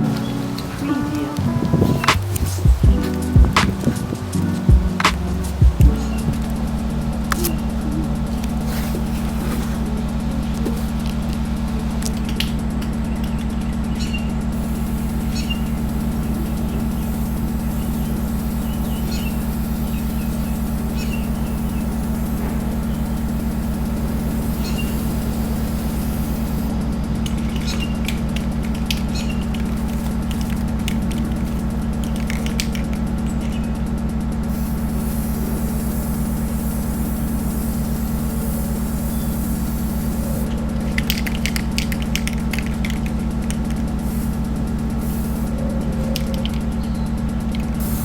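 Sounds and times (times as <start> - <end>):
motor humming: 0.0 - 48.0.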